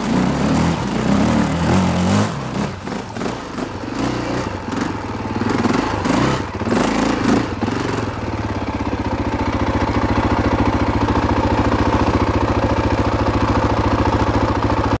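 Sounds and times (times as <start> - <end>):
dirt bike engine revving and idling: 0.0 - 15.0.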